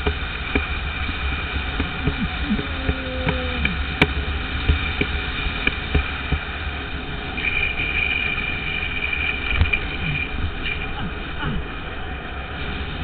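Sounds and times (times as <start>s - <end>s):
high-pitched whine: 0.0s - 13.0s
longboard wheels rolling on asphalt: 0.0s - 13.0s
wind on microphone: 0.0s - 13.0s.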